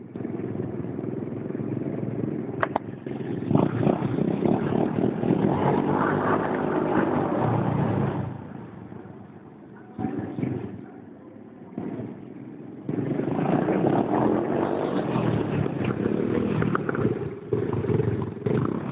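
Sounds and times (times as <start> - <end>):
motorbike engine revving: 0.1 - 8.9, 11.7 - 18.9.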